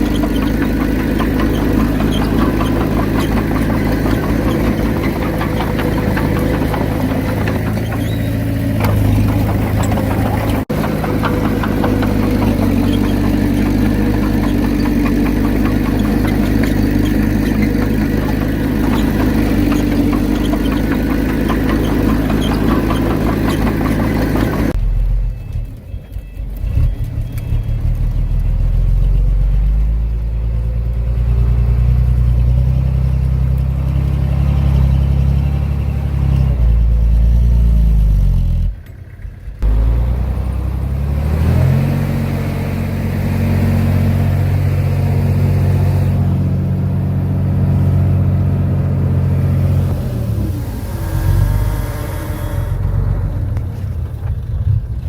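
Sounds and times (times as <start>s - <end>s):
heavy diesel engine working: 0.0s - 55.0s.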